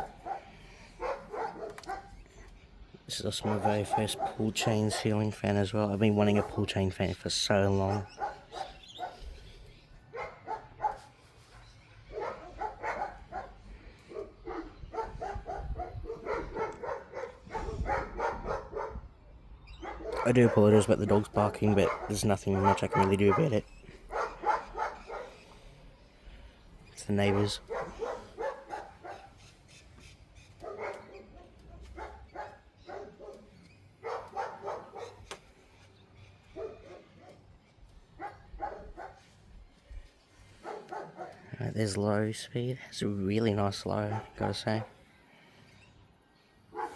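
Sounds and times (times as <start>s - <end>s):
dogs barking: 0.0s - 26.0s, 26.9s - 39.6s, 40.4s - 41.6s, 43.5s - 45.1s, 46.7s - 46.9s.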